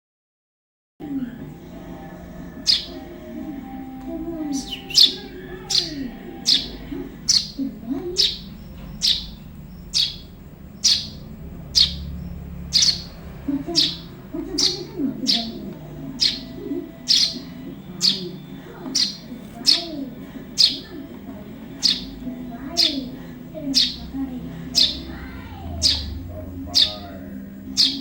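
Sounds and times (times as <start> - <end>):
sparrow chirping: 1.0 - 28.0.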